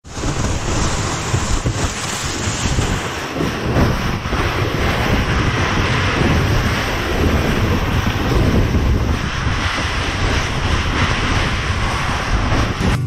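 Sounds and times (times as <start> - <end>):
kayak hull sliding on snow: 0.0 - 13.0
wind buffeting microphone: 0.0 - 13.0.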